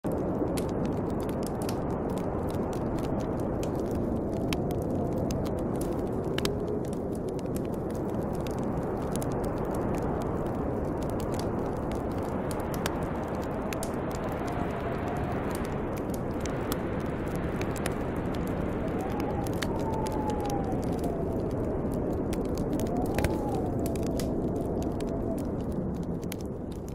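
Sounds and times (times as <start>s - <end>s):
bonfire crackling and popping: 0.0s - 26.9s
snowstorm wind: 0.0s - 26.9s.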